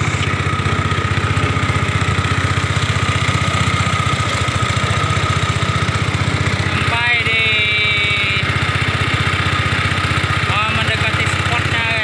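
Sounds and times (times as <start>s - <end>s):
boat motor puttering: 0.0s - 12.0s.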